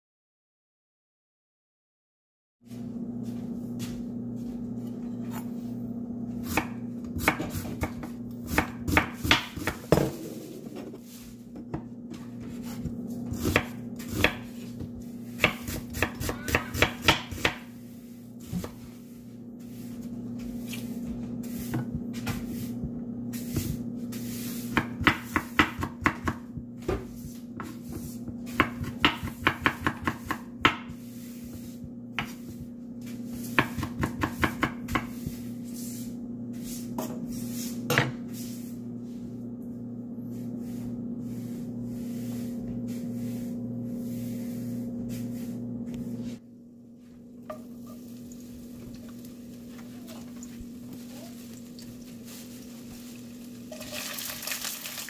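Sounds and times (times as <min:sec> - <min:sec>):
steady low hum: 0:02.7 - 0:53.8.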